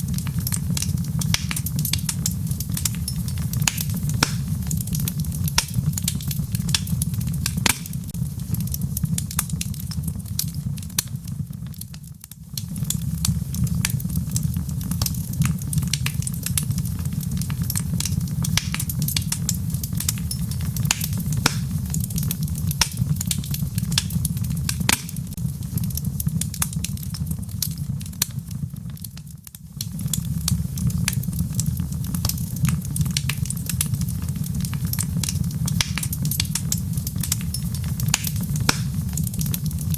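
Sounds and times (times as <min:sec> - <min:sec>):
fire flames rumbling: 0:00.0 - 0:39.9
logs crackling and popping: 0:00.0 - 0:39.9.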